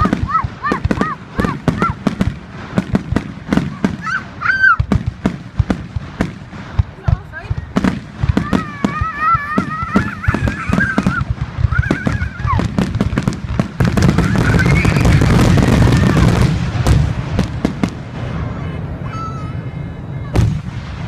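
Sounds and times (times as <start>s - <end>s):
fireworks banging and crackling: 0.0s - 21.0s.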